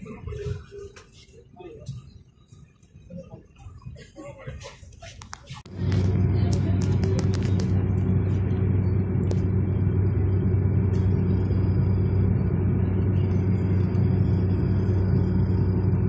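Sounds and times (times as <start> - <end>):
tram rumbling on track: 0.0 - 16.0.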